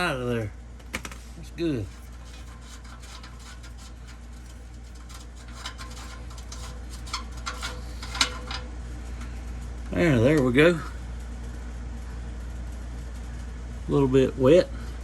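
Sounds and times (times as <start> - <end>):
low hum: 0.0 - 13.4.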